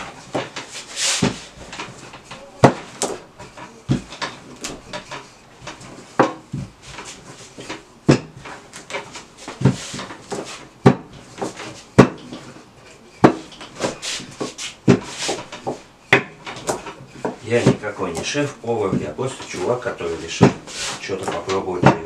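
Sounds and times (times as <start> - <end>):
rolling pin rubbing over dough: 0.0 - 22.0
rolling pin knocking on table: 0.3 - 12.5, 13.2 - 19.6, 20.2 - 22.0.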